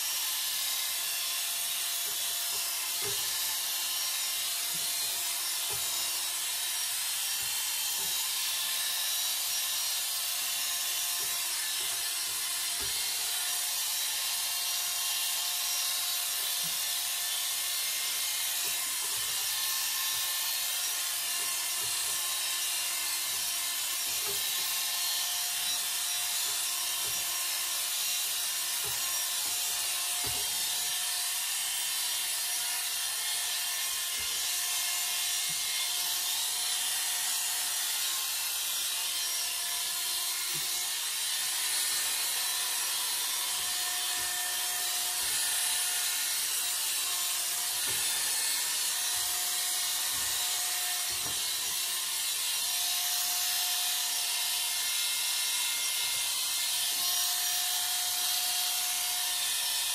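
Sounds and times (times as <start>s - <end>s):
electric hair clippers running: 0.0s - 59.9s.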